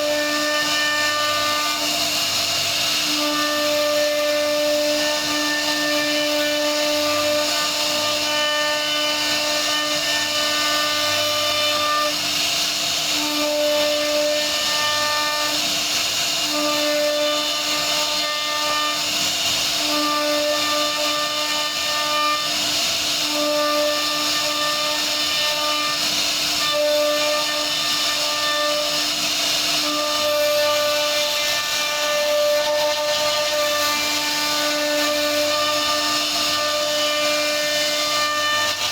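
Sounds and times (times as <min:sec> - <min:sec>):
router spindle cutting wood: 0:00.0 - 0:38.9.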